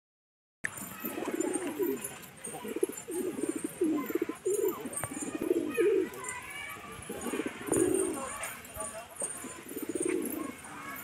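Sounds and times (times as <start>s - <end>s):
pigeons cooing: 0.8s - 11.0s.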